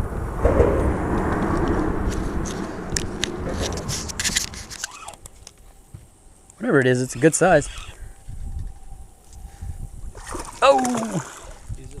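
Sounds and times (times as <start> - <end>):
wind buffeting microphone: 0.0 - 6.4, 7.1 - 12.0.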